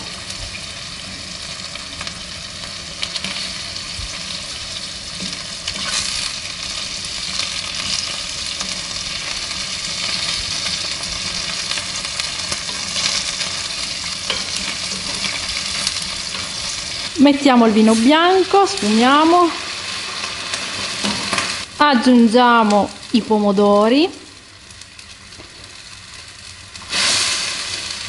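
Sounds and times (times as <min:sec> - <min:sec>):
seafood sizzling in oil: 0:00.0 - 0:28.0.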